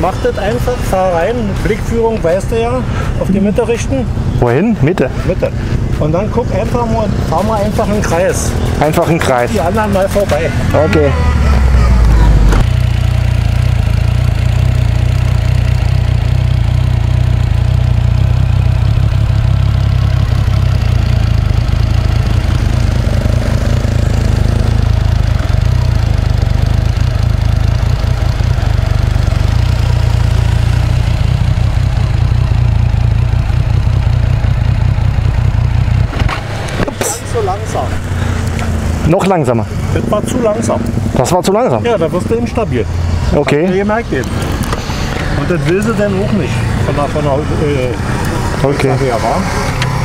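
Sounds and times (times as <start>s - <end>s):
motorcycle engine running at low revs: 5.1s - 50.0s.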